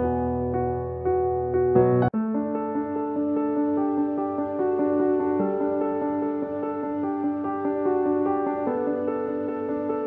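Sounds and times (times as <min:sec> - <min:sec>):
soft ambient keyboard music: 0:00.0 - 0:10.0.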